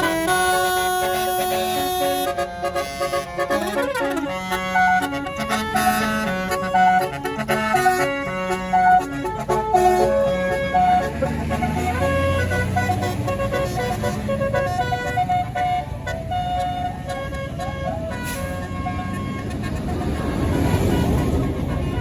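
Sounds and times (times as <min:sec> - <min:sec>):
multi-tone bus air horn melody: 0:00.0 - 0:22.0.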